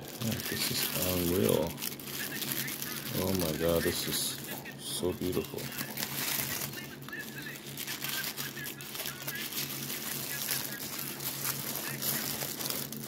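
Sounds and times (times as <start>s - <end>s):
steady low hum: 0.0s - 13.0s
tissue paper rustling and crinkling: 0.0s - 13.0s.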